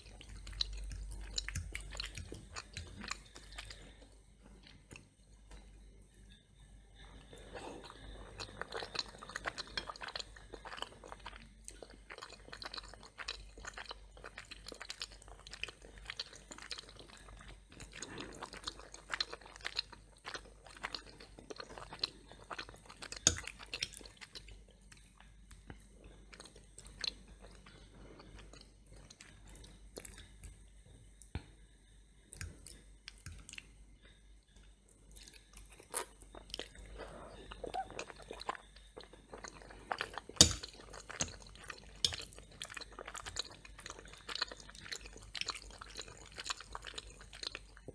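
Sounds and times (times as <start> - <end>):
person chewing crisp toast: 0.0 - 6.4, 7.2 - 30.5, 34.9 - 47.9.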